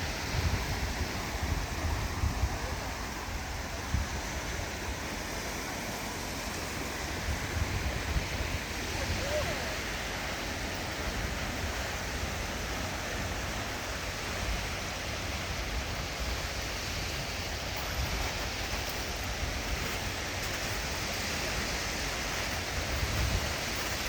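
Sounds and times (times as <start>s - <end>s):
small waves on sandy beach: 0.0s - 24.0s.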